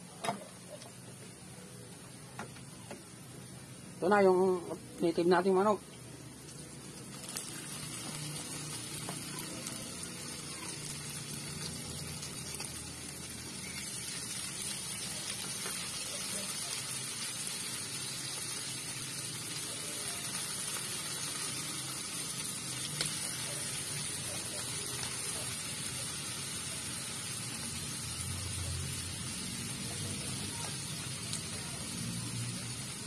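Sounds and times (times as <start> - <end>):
chicken sizzling in a wok: 0.0 - 33.0.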